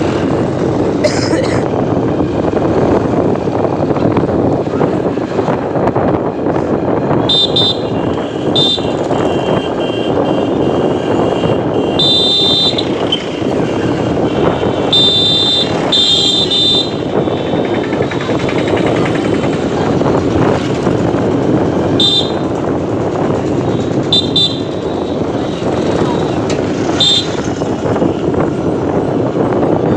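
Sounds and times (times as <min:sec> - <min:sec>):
moving train running noise: 0:00.0 - 0:29.9.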